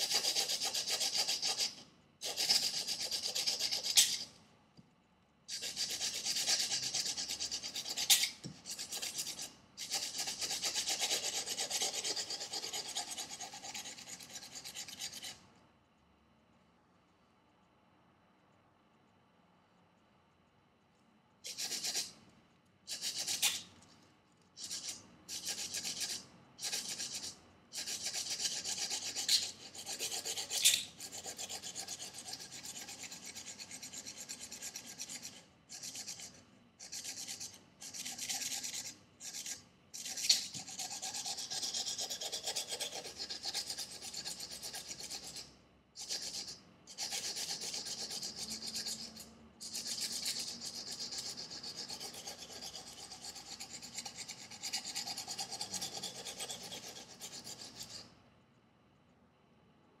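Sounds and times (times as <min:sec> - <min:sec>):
knife scraping on sandpaper: 0:00.0 - 0:04.3, 0:05.5 - 0:15.4, 0:21.5 - 0:22.1, 0:22.9 - 0:23.7, 0:24.6 - 0:58.1.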